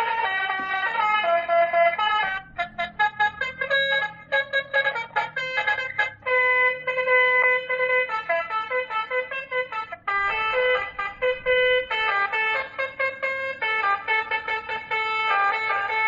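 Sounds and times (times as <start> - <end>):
electronic horn playing tunes: 0.0 - 16.0.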